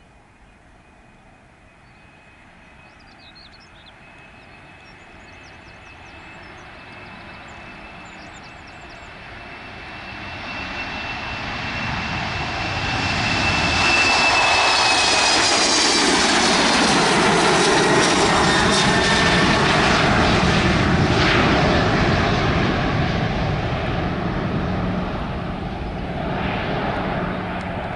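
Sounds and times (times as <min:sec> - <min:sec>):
jet airliner engines at takeoff: 0:00.0 - 0:27.9.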